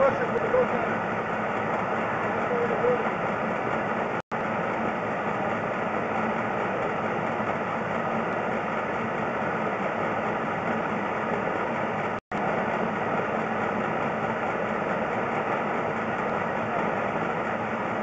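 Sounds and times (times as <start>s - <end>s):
steady mechanical running noise: 0.0s - 18.0s.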